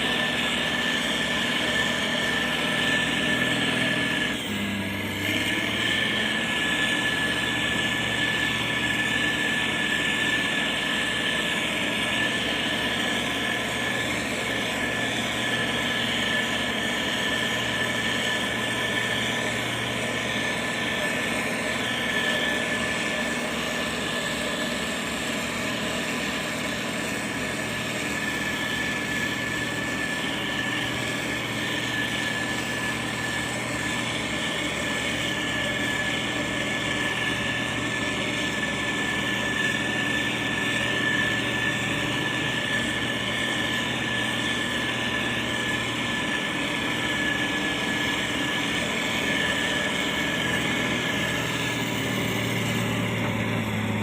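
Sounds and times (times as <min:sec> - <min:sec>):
heavy machinery engine hum: 0:00.0 - 0:54.0
thin steady whine: 0:00.0 - 0:54.0.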